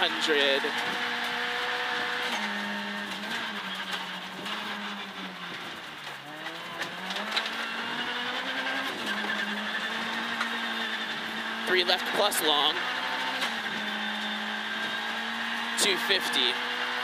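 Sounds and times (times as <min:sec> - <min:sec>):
gear upshift: 0:00.0 - 0:17.0
rally car engine revving hard: 0:00.0 - 0:17.0.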